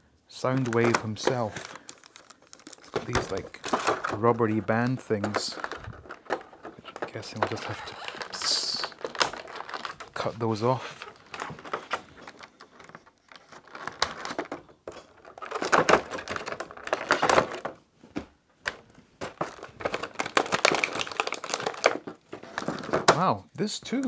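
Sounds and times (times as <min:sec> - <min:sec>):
plastic tray crinkling: 0:00.3 - 0:17.8, 0:18.7 - 0:23.2.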